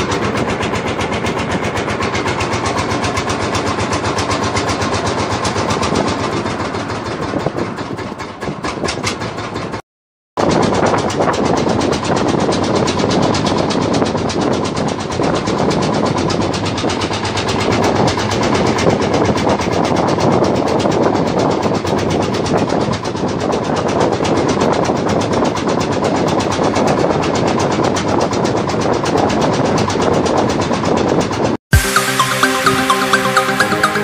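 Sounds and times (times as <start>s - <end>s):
boat engine running: 0.0s - 9.8s, 10.4s - 34.0s
wind: 0.0s - 9.8s, 10.4s - 34.0s.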